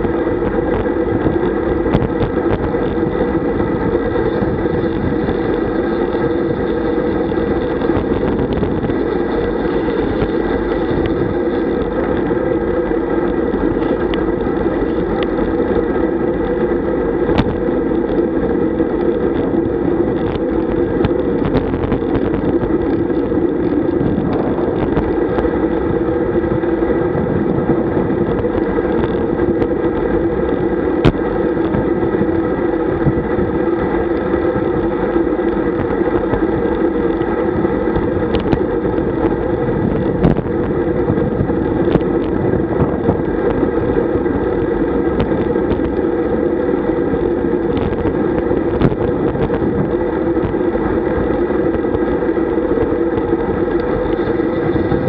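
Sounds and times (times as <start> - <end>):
road noise: 0.0 - 55.0
wind rush: 0.0 - 55.0.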